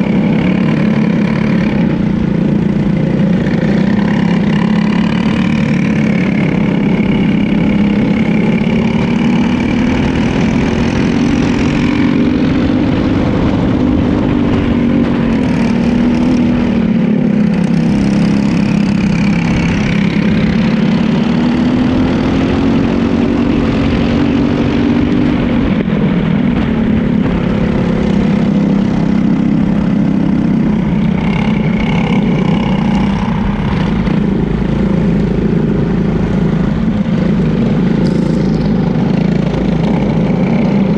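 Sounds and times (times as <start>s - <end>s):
kart engine revving: 0.0s - 40.9s
other kart engines: 0.0s - 40.9s.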